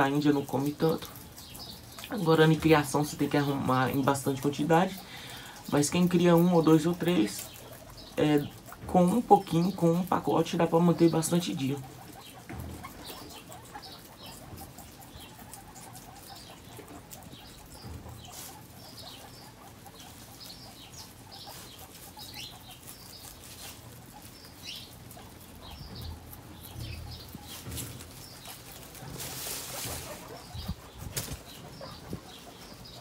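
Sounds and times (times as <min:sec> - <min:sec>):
guinea pig squeaks: 0:00.0 - 0:33.0
rustling and chewing grass: 0:00.0 - 0:33.0.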